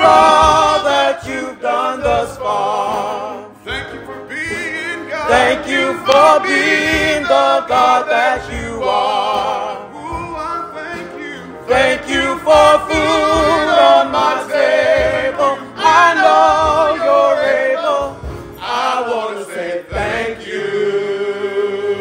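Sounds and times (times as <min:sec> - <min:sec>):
gospel choir singing: 0:00.0 - 0:22.0.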